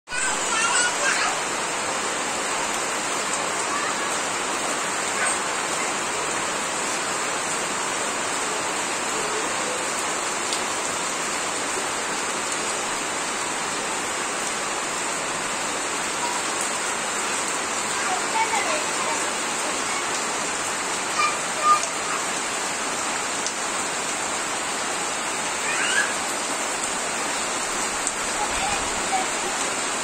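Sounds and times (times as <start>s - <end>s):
rain on plants and tiles: 0.1s - 30.0s.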